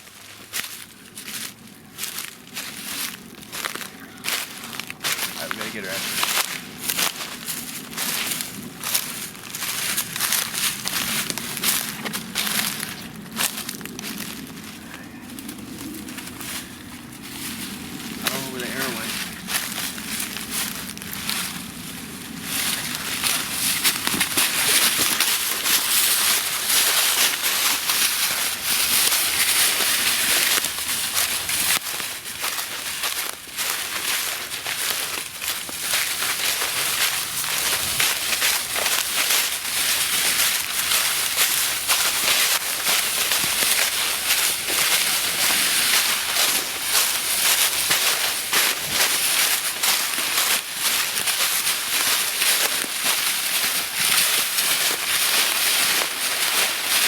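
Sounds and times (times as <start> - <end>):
dry leaves rustling and crackling: 0.0 - 57.0.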